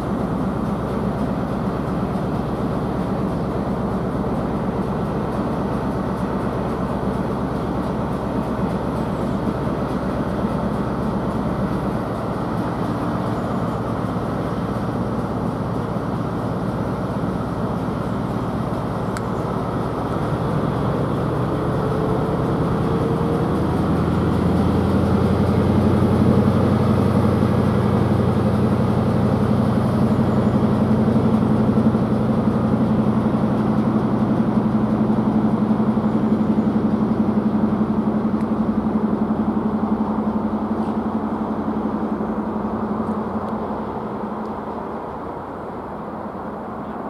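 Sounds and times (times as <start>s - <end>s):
deep diesel engine drone: 0.0s - 47.0s.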